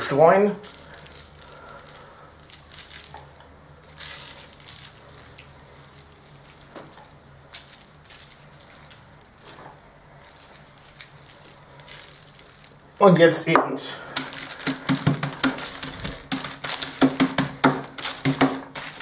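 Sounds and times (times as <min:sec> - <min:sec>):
rustling and crinkling paper: 0:00.6 - 0:13.0, 0:14.0 - 0:19.0.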